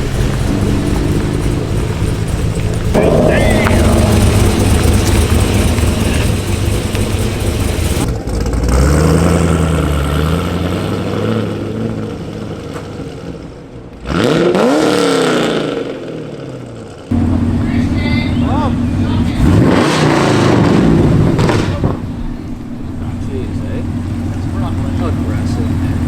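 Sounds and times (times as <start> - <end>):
steady engine drone: 0.0 - 12.8, 16.9 - 26.0
engine revving: 0.0 - 26.0.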